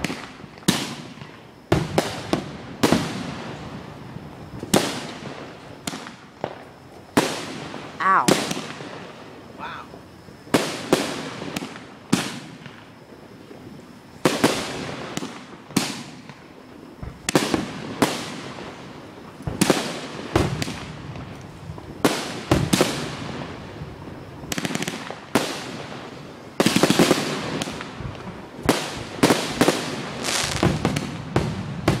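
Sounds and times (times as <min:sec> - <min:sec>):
fireworks bangs echoing: 0:00.0 - 0:03.9, 0:04.6 - 0:09.2, 0:10.5 - 0:12.9, 0:14.2 - 0:18.9, 0:19.5 - 0:23.8, 0:24.4 - 0:32.0.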